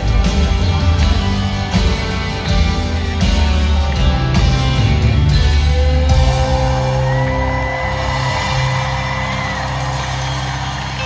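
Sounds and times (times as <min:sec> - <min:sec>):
live band with electric guitar: 0:00.0 - 0:11.0.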